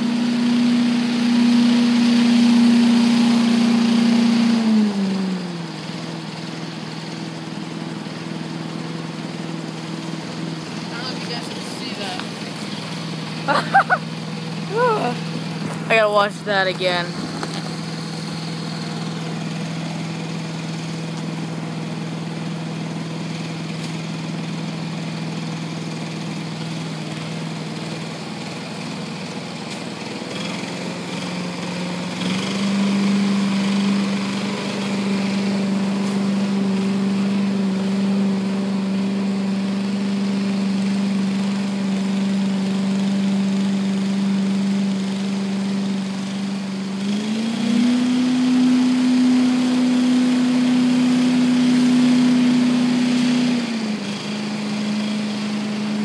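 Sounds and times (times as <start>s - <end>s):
leaf blower engine running: 0.0s - 56.0s.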